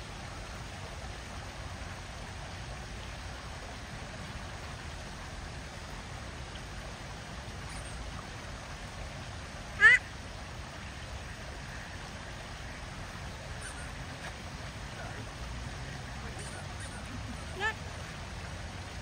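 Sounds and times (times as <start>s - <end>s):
hissing outdoor background noise: 0.0s - 19.0s.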